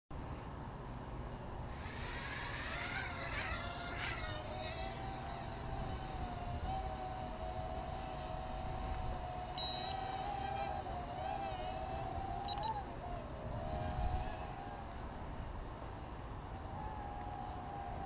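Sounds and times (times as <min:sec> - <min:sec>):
quadcopter propellers humming: 0:00.2 - 0:18.0
wind rumble on microphone: 0:01.3 - 0:18.0.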